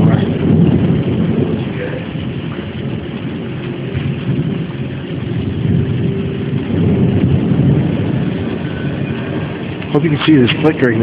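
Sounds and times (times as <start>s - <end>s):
steady rain: 0.0s - 11.0s
thunder rumbling: 0.0s - 11.0s.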